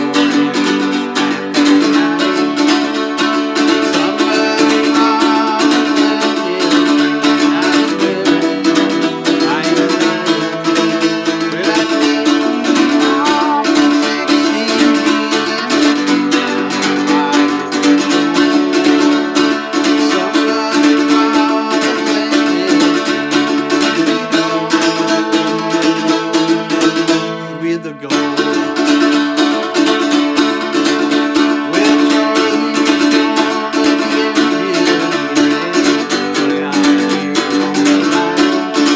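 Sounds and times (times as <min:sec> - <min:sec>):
plucked string instruments: 0:00.0 - 0:38.9.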